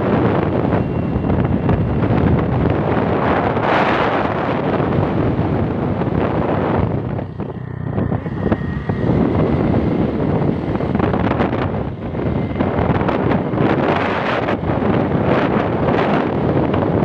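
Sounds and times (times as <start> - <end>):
vehicle running noise: 0.0 - 17.0
wind blowing across microphone: 0.0 - 17.0.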